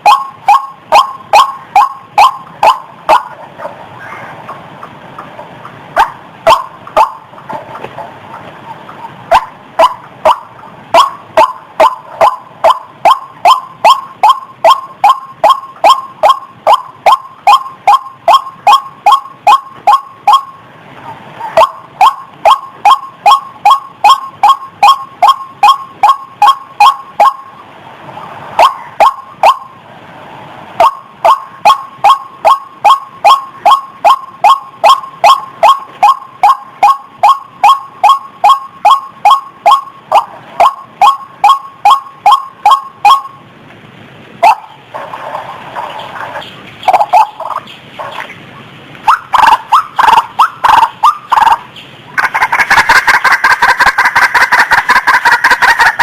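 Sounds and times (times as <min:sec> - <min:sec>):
waterhen harsh calls: 0:00.0 - 0:04.6, 0:08.7 - 0:20.5, 0:21.4 - 0:27.5, 0:28.2 - 0:29.7, 0:30.8 - 0:43.4, 0:44.4 - 0:48.4, 0:49.0 - 0:56.0.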